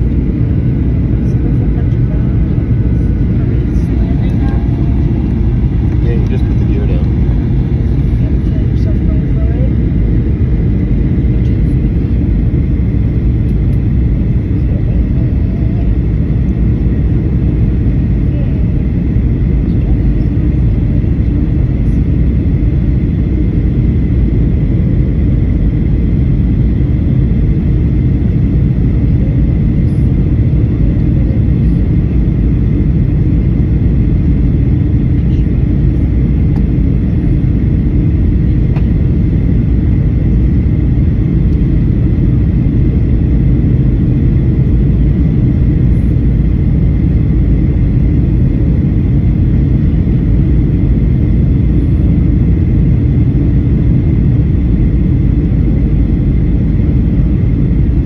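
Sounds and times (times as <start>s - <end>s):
airliner cabin rumble: 0.0s - 58.0s
faint steady whine: 0.0s - 58.0s.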